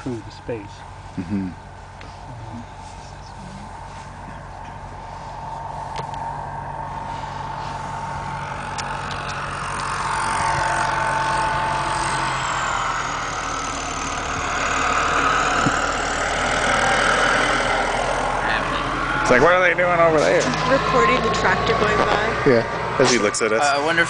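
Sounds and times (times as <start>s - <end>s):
tractor engine driving past: 0.0s - 24.0s.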